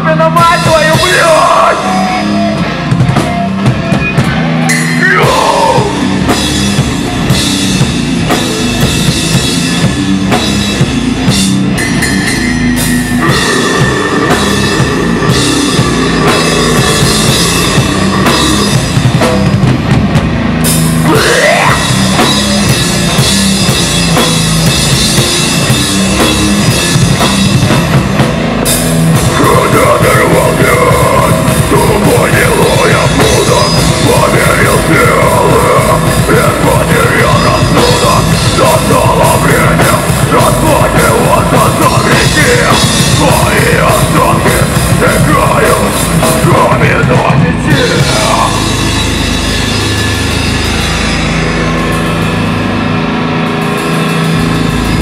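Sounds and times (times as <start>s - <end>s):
heavy bass drum: 0.0s - 55.0s
metal band playing live: 0.0s - 55.0s.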